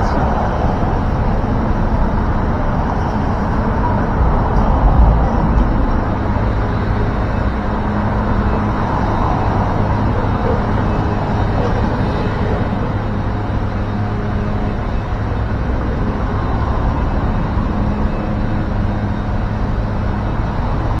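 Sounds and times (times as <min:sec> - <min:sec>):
low engine hum: 0:00.0 - 0:21.0
road traffic noise: 0:00.0 - 0:21.0.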